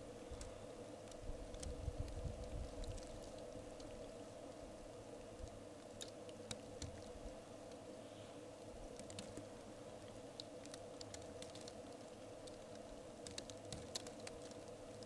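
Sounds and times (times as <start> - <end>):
snow ticking faintly: 0.0 - 15.0.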